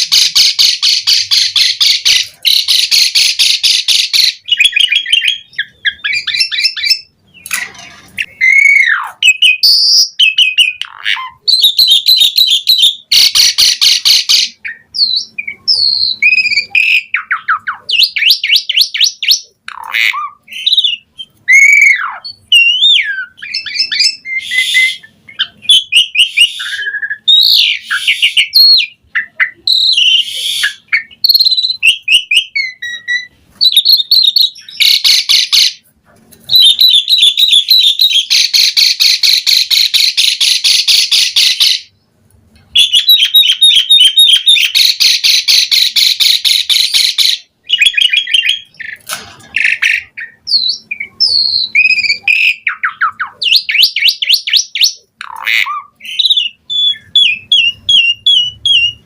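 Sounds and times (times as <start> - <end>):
starling singing: 0.0 - 35.8, 36.5 - 42.0, 42.8 - 59.0.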